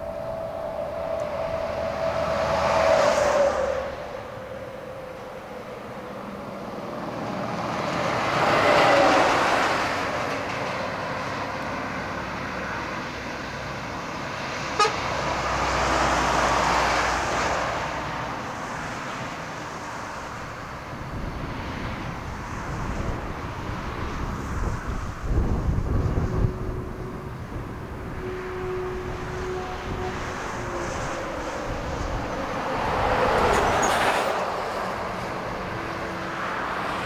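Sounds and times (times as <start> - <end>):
trucks driving past: 0.0 - 37.0.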